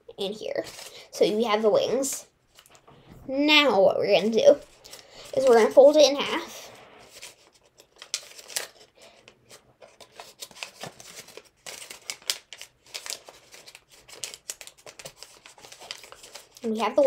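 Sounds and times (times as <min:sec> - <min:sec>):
paper being folded and creased: 0:00.3 - 0:01.4, 0:04.2 - 0:17.0.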